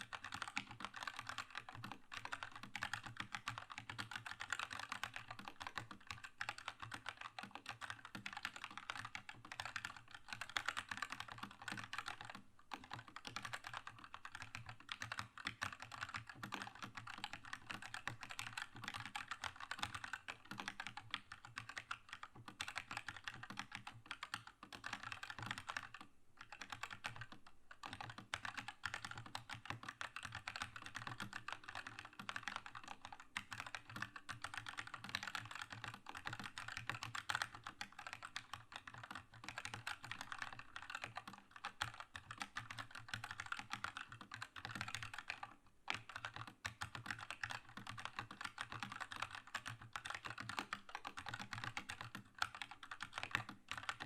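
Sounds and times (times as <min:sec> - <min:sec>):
fast mechanical keyboard typing: 0:00.0 - 0:54.0.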